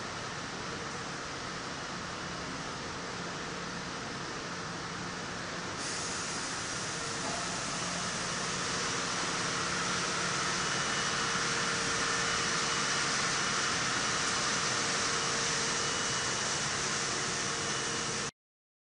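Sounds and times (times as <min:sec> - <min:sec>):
factory machinery hiss and hum: 0:00.0 - 0:18.3.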